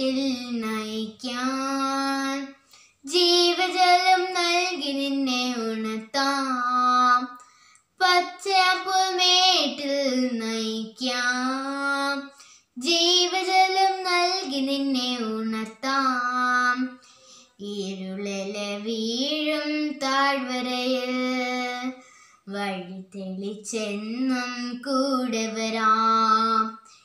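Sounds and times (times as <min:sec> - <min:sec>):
girl singing unaccompanied: 0:00.0 - 0:27.0.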